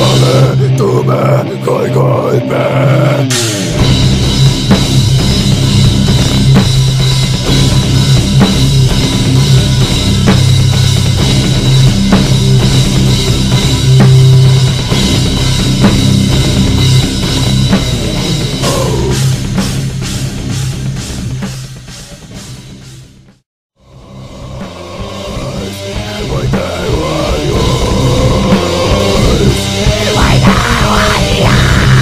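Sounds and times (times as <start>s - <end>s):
heavy rock music with drums: 0.0s - 32.0s.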